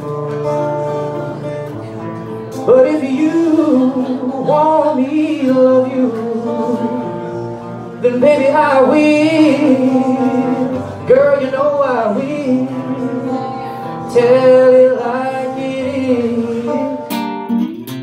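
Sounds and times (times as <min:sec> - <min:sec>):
acoustic guitar strumming: 0:00.0 - 0:18.0
man singing: 0:02.5 - 0:17.5.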